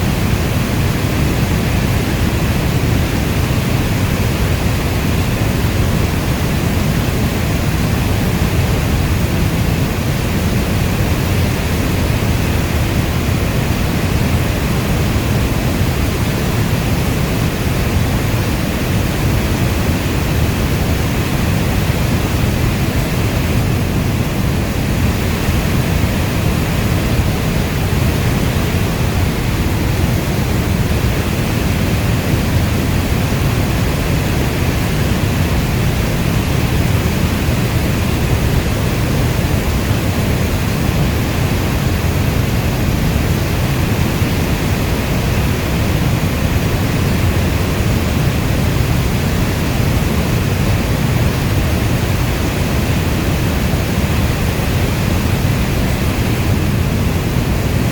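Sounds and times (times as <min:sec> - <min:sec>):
heavy rainfall: 0:00.0 - 0:57.9.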